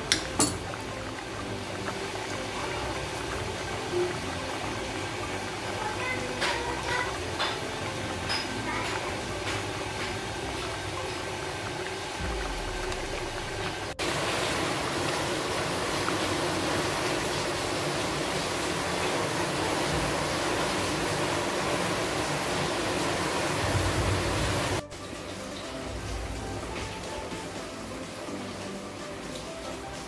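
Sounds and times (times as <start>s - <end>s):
curry bubbling in a pan: 0.0s - 30.0s.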